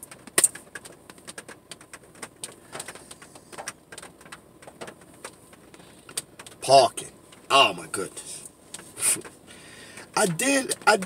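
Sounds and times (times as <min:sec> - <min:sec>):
light ticks and taps in car cabin: 0:00.0 - 0:07.7, 0:08.4 - 0:11.0.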